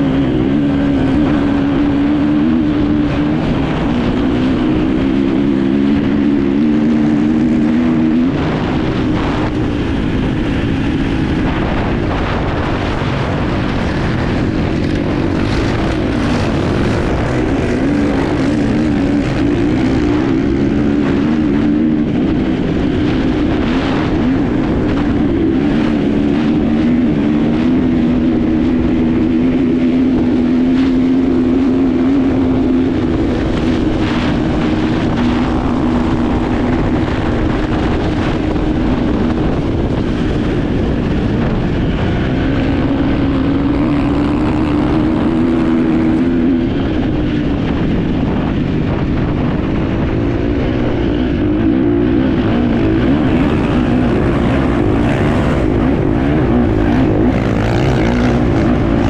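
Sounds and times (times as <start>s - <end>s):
motorcycle engine revving: 0.0s - 59.0s
rushing wind noise: 0.0s - 59.0s.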